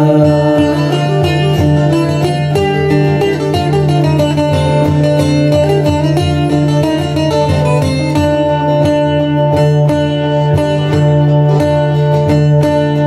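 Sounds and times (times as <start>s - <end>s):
folk ensemble playing lively tune: 0.0s - 13.0s.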